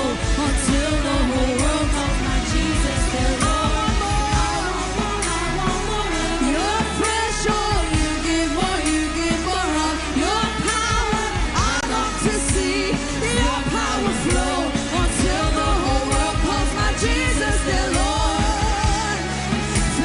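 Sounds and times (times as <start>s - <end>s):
drums: 0.0s - 20.0s
live band playing: 0.0s - 20.0s
person singing: 0.0s - 20.0s.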